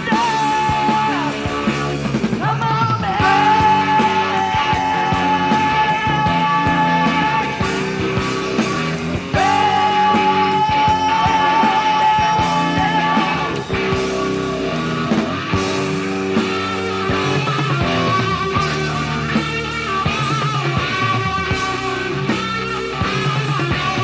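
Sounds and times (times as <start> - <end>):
hard rock band playing: 0.0 - 24.0.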